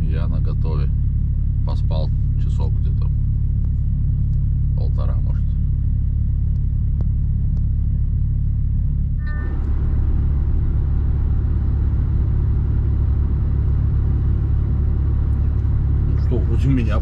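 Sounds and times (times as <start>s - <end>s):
truck engine hum: 0.0s - 17.0s.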